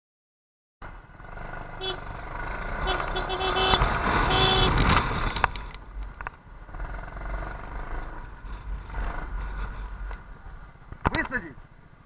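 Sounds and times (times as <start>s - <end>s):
motorcycle engine and wind rumble: 0.9s - 12.0s.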